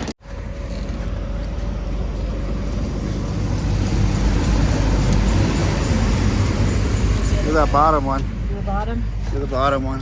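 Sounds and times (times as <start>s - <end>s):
low rumble of vehicles: 0.0s - 10.0s.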